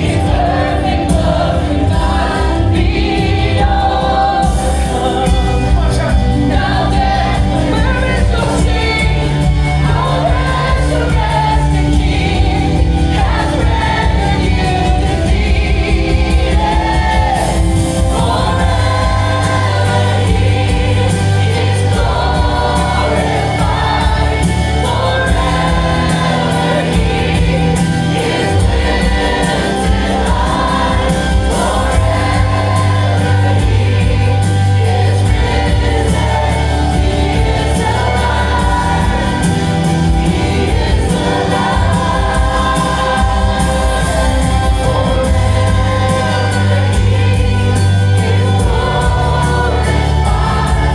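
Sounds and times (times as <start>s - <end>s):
band with strong bass: 0.0s - 50.9s
choir and congregation singing: 0.0s - 50.9s.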